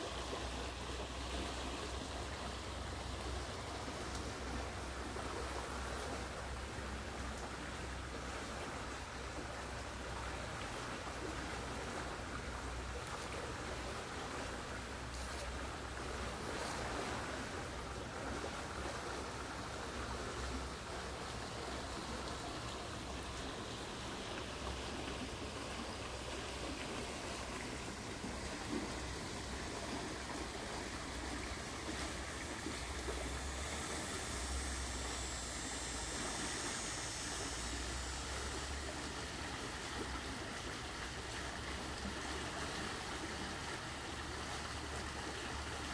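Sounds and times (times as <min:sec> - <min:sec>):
stream bubbling: 0:00.0 - 0:45.9.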